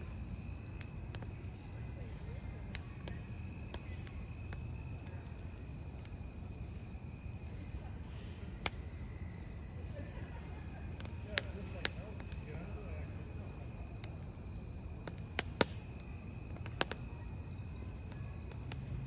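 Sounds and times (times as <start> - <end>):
campfire crackling: 0.0 - 19.0
crickets chirping: 0.0 - 19.0.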